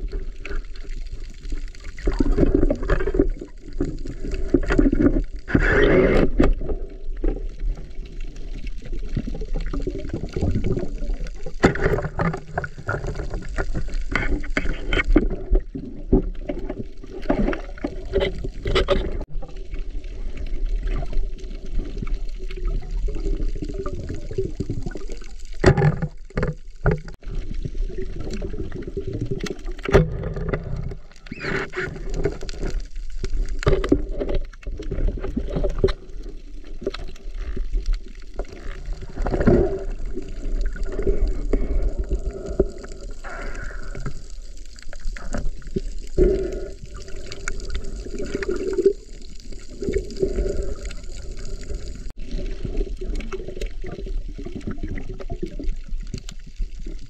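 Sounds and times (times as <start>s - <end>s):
muffled water sloshing underwater: 0.0s - 57.0s.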